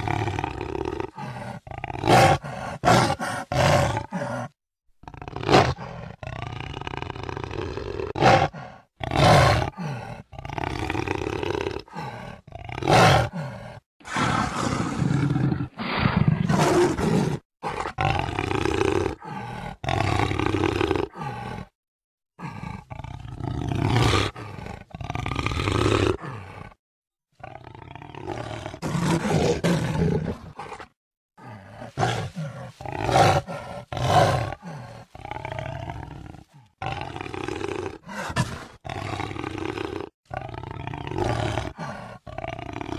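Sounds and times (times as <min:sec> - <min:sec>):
jaguar roaring and growling: 0:00.0 - 0:21.8, 0:22.4 - 0:26.8, 0:27.4 - 0:42.9.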